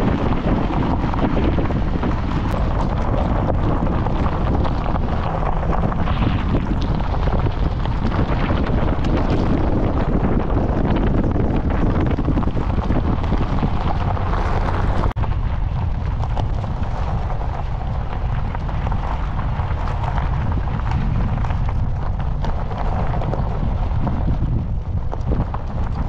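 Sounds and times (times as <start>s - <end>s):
vehicle rolling over rocky track: 0.0s - 26.0s
wind buffeting microphone: 0.0s - 26.0s.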